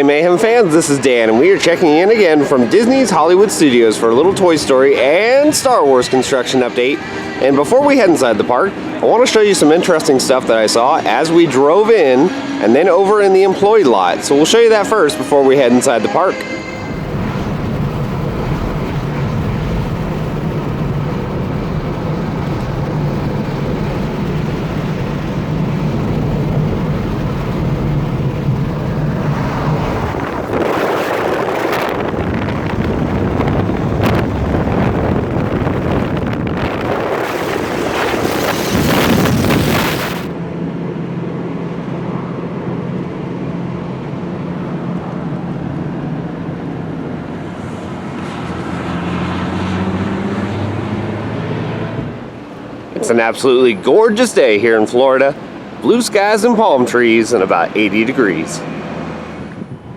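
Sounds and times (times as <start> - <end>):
car engine hum: 0.0 - 53.9
wind and road noise: 0.0 - 59.9.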